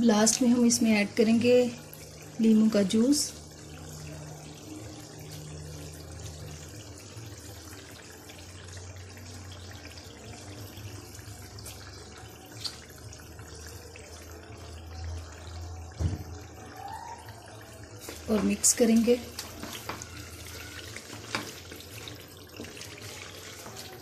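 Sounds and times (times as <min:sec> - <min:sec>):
curry bubbling and sizzling: 0:00.0 - 0:24.0.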